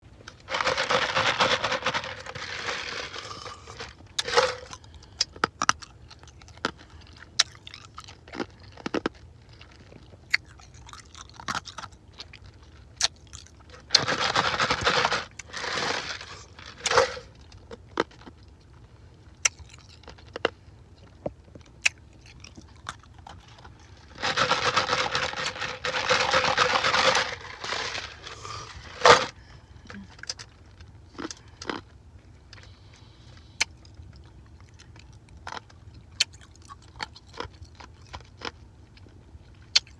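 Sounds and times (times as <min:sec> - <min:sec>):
ice crunching in mouth: 0:00.3 - 0:18.7, 0:19.4 - 0:29.4, 0:33.6 - 0:39.9.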